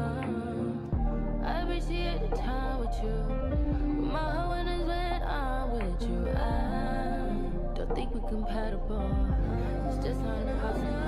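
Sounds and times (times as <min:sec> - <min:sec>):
slow sung song with bass: 0:00.0 - 0:11.0.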